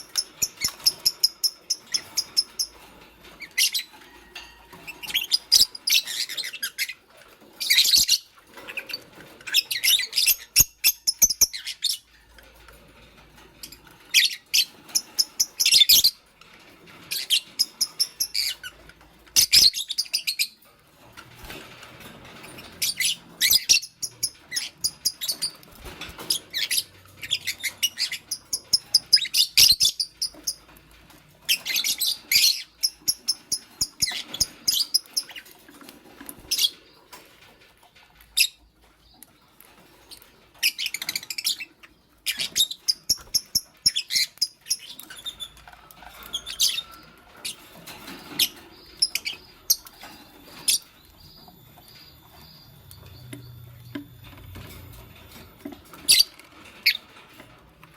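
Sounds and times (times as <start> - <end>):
lovebirds chirping: 0.0 - 4.2, 4.8 - 12.3, 17.0 - 20.6, 22.4 - 30.8, 31.4 - 37.2, 38.2 - 57.2.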